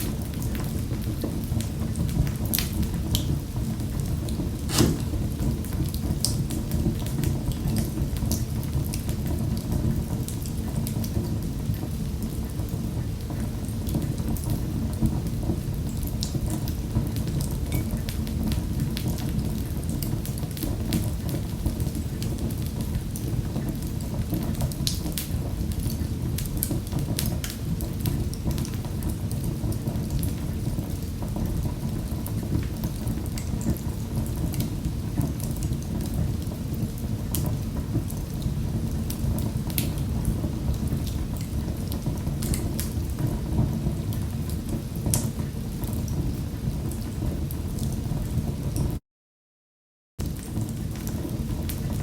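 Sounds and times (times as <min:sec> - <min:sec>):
fire crackling and popping: 0:00.0 - 0:48.5.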